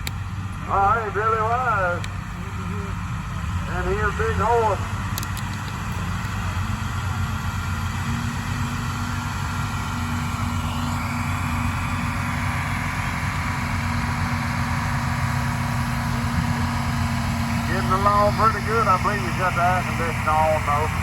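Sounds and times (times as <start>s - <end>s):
tractor engine under load: 0.0s - 21.0s.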